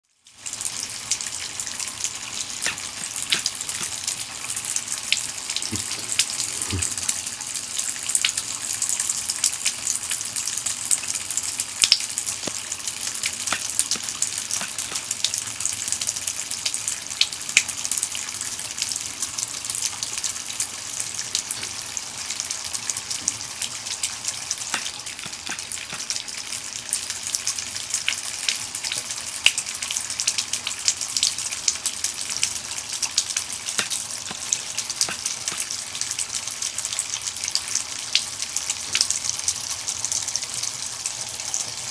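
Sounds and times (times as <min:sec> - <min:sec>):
water running into bathtub: 0:00.3 - 0:39.8.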